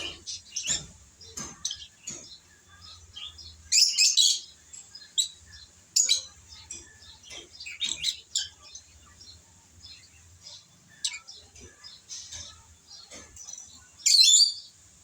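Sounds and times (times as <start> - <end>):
lovebirds chirping: 0.0 - 15.0.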